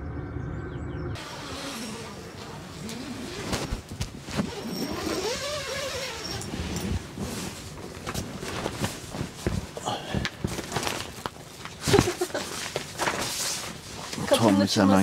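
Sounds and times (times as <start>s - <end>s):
fabric rustling: 1.4s - 14.5s.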